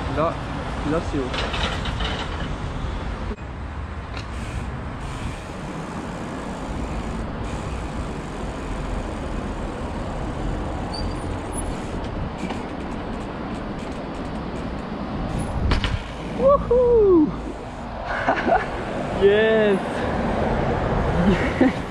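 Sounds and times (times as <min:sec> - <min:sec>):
passing road traffic: 0:00.0 - 0:21.9.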